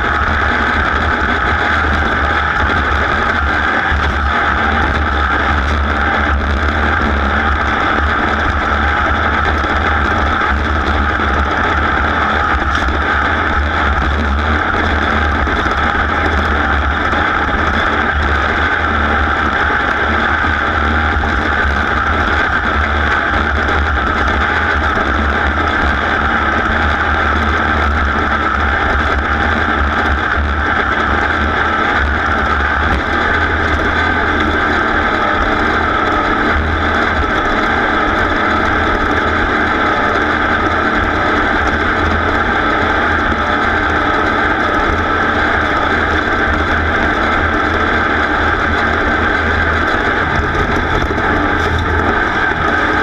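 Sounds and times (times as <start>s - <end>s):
race engine running hard: 0.0s - 53.0s.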